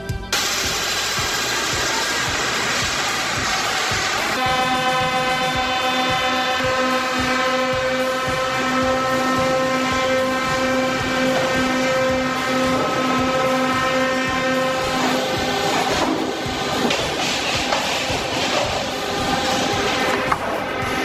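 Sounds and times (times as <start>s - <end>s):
machinery loud pitched drone: 0.0s - 21.0s
scattered knocks: 0.3s - 21.0s.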